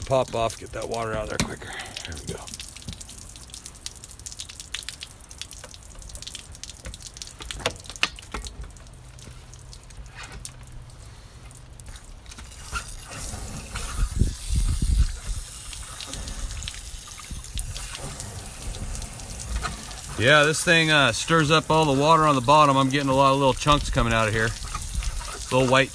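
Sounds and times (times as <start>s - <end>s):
water splashing and dripping: 0.0s - 25.9s.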